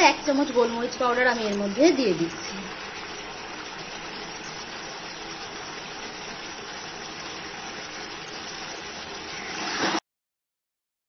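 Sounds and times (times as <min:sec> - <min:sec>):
gravy simmering and sizzling: 0:00.0 - 0:10.0.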